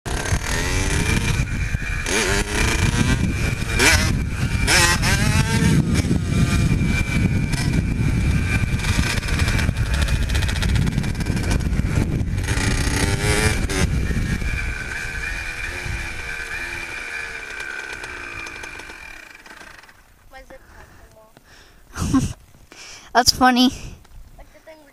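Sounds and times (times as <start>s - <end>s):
pit bike engine revving: 0.1s - 20.1s.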